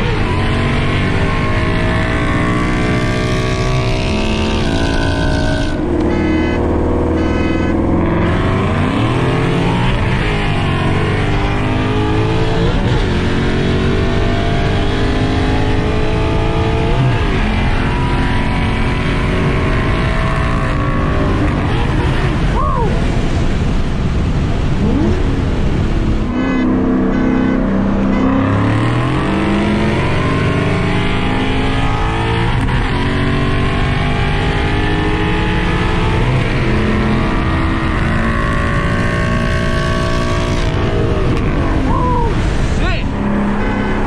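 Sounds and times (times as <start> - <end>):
car engine accelerating through gears: 0.0 - 22.5, 24.7 - 44.0.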